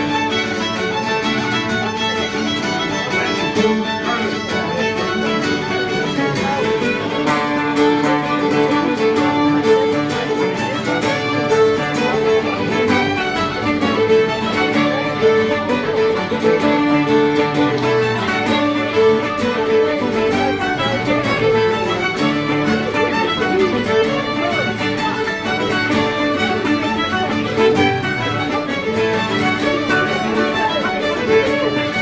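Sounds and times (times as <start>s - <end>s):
fiddle playing a jig: 0.0s - 32.0s
strummed guitar: 0.0s - 32.0s.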